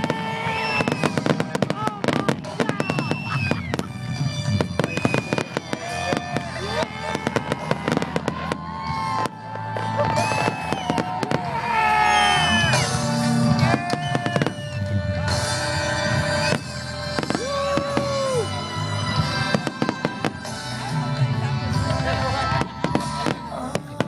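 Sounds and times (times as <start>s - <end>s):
fireworks whistling tones: 0.0s - 20.9s
fireworks bangs and crackles: 0.0s - 24.0s.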